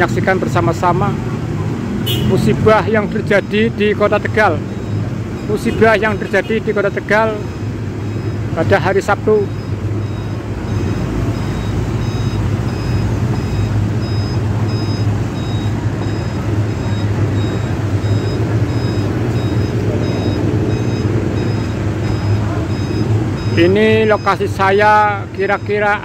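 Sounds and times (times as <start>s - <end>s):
high-pitched electronic beeps: 2.1s - 26.0s.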